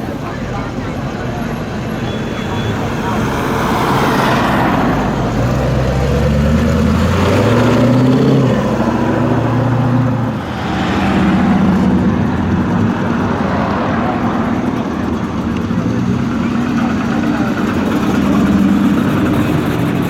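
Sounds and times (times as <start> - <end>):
car engine accelerating: 2.8 - 20.0.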